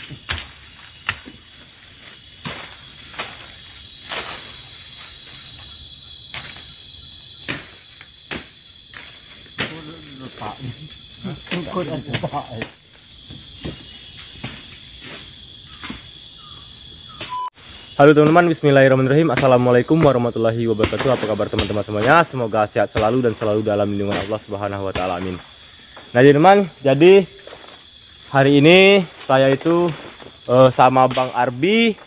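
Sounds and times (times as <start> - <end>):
higher insect tone: 0.0 - 32.0
insects droning: 0.0 - 32.0.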